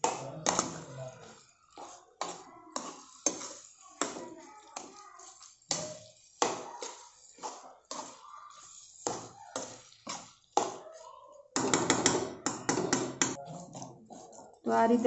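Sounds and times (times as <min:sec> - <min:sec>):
metal spoon scraping a pan: 0:00.0 - 0:15.0.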